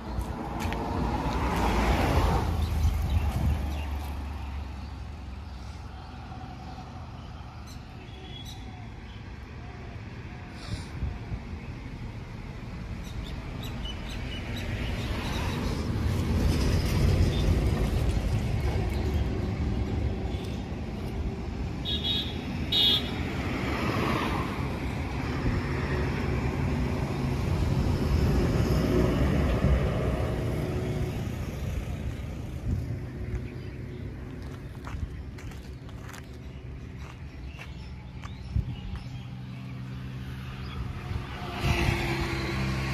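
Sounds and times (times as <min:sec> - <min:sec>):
highway traffic rumble: 0:00.0 - 0:42.9.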